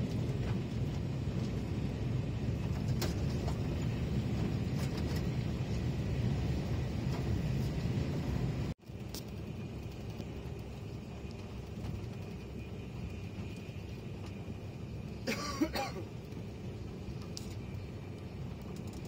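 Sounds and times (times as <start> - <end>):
high-speed train rumble inside cabin: 0.0 - 19.0.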